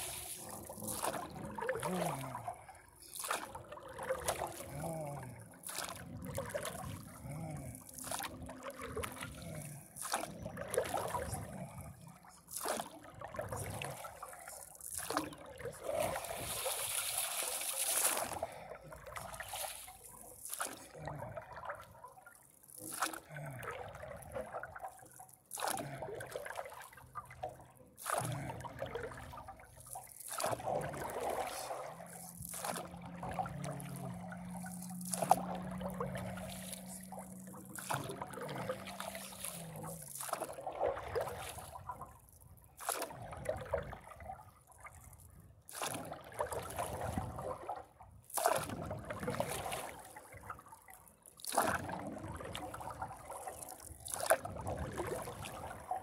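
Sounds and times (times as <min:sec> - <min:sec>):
paddle strokes in water: 0:00.0 - 0:56.0
water sloshing and dripping: 0:00.0 - 0:56.0.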